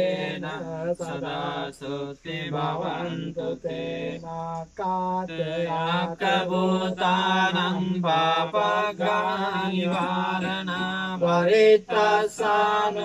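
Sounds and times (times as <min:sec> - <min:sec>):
monks chanting: 0:00.0 - 0:13.0.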